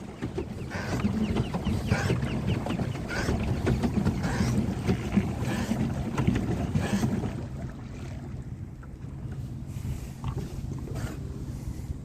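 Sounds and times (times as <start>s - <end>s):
water churning and splashing: 0.0s - 12.0s.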